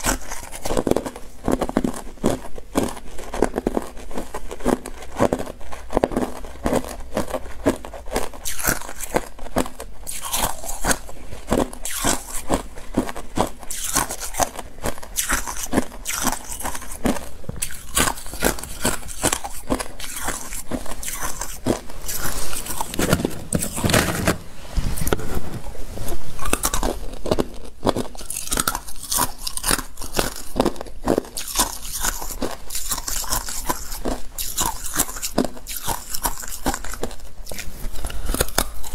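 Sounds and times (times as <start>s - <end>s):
ice being chewed: 0.0s - 24.4s, 25.0s - 38.9s.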